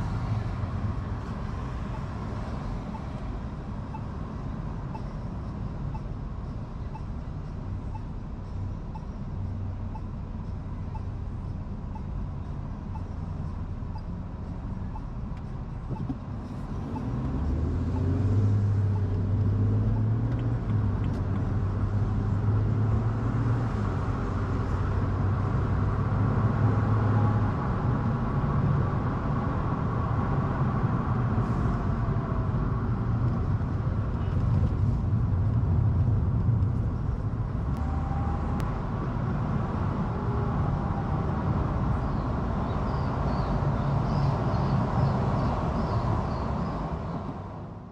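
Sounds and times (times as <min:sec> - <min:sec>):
car engine rumble: 0:00.0 - 0:47.9
road noise: 0:00.0 - 0:47.9.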